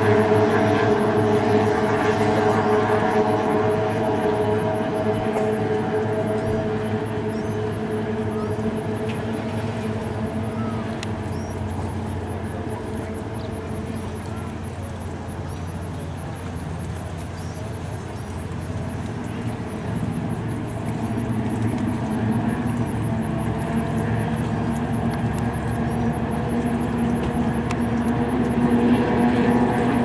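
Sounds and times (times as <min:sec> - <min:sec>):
powerboat engine running: 0:00.0 - 0:30.0.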